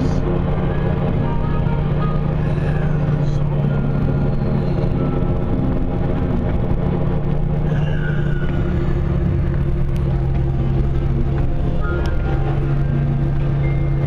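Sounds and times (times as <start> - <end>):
low engine hum: 0.0 - 14.0
road rumble: 0.0 - 14.0.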